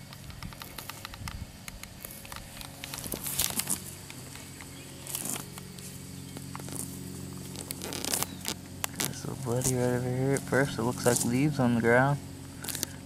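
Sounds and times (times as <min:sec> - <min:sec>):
grass and dry leaves crackling: 0:00.0 - 0:13.0.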